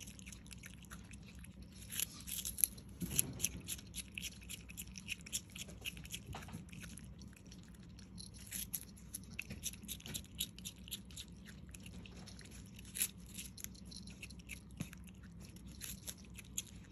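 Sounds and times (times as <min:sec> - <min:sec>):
skunk chewing celery: 0:00.0 - 0:16.9.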